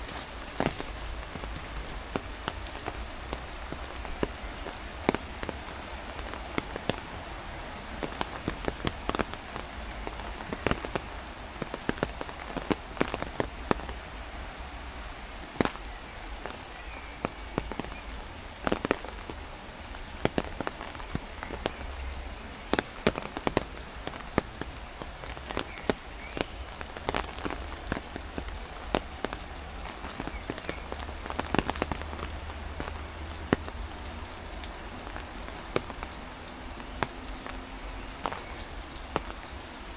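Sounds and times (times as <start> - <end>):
heavy rain hiss: 0.0 - 39.9
loud raindrops striking close: 0.0 - 39.9.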